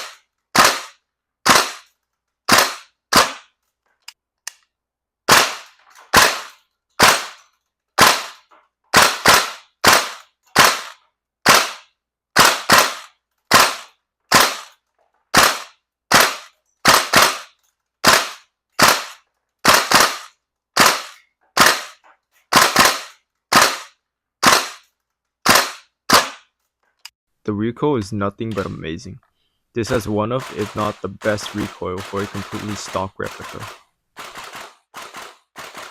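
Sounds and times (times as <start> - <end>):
airsoft rifle shots: 0.0 - 3.6, 5.3 - 7.4, 8.0 - 26.5, 29.8 - 35.9.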